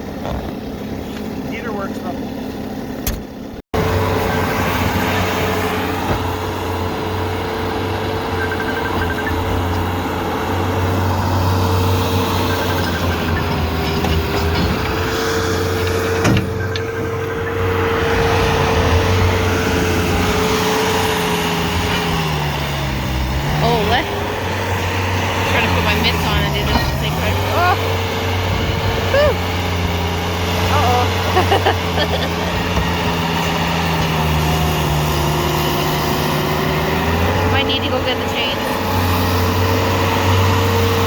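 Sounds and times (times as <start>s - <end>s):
loader engine whining: 0.0s - 41.0s.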